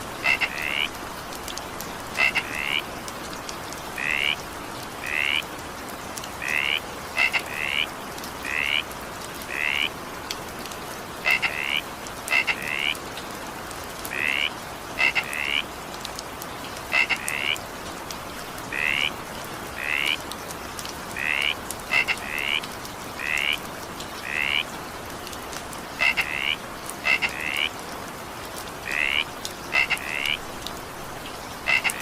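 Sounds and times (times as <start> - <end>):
rain hissing: 0.0 - 32.0
frogs croaking: 0.1 - 3.1, 3.8 - 10.0, 11.1 - 13.1, 14.0 - 15.8, 16.8 - 17.7, 18.4 - 27.9, 28.6 - 32.0.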